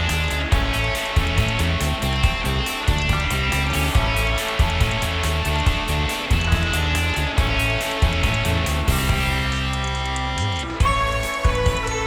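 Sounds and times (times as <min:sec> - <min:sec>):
music with guitars and drums: 0:00.0 - 0:12.0.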